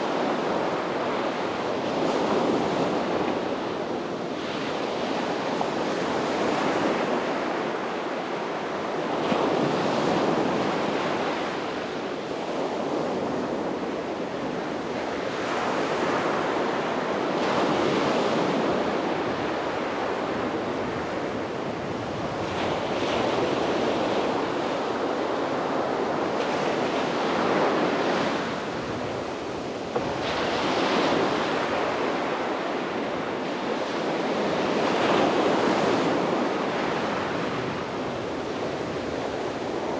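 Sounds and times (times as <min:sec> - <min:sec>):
waves breaking on beach: 0:00.0 - 0:39.9
wind on microphone: 0:00.0 - 0:39.9.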